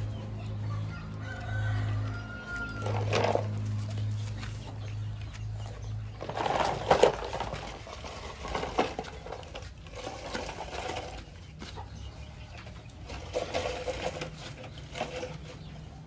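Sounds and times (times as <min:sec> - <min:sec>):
toy truck scraping on dirt: 0:00.0 - 0:16.0.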